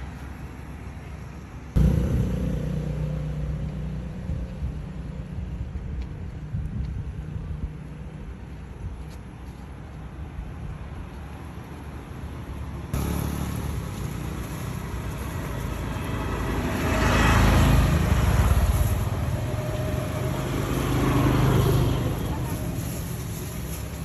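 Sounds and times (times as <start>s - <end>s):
motor vehicle engine rumble: 0.0s - 24.0s
road noise: 0.0s - 24.0s.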